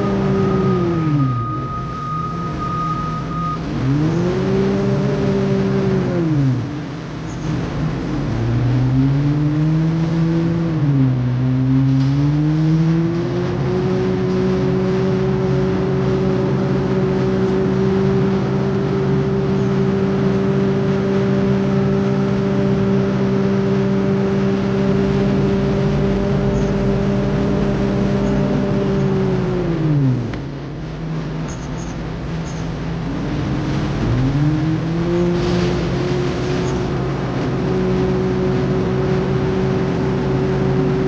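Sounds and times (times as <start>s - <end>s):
heavy diesel engine under load: 0.0s - 41.0s.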